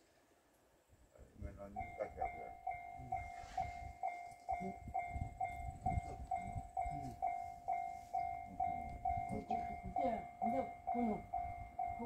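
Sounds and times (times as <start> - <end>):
level-crossing alarm chime: 1.6 - 12.0.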